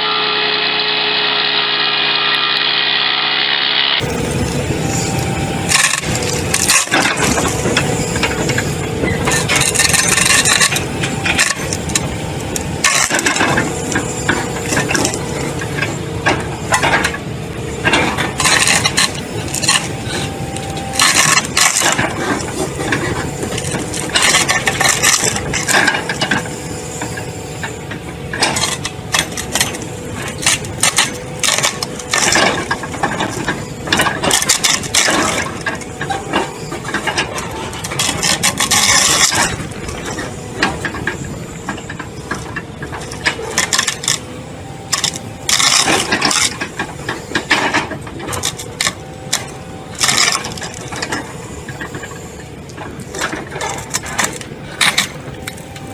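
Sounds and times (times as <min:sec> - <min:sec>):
wood shredder engine drone: 0:00.0 - 0:55.9
wood cracking and crunching: 0:04.0 - 0:17.2, 0:17.8 - 0:27.3, 0:28.4 - 0:55.9.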